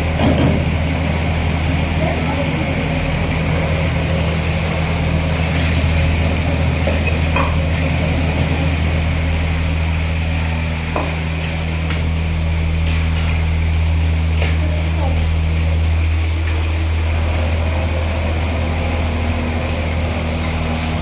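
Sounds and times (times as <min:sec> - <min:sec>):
kitchen equipment humming: 0:00.0 - 0:21.0.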